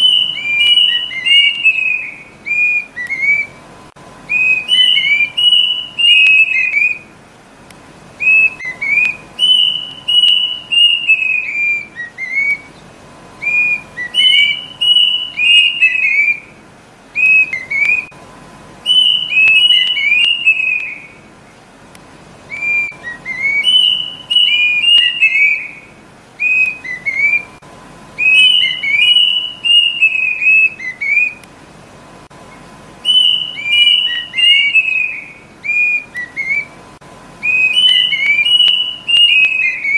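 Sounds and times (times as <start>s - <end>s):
cuckoo calling: 0.0s - 7.2s, 8.2s - 18.2s, 18.8s - 21.6s, 22.4s - 27.6s, 28.2s - 31.5s, 32.4s - 39.9s.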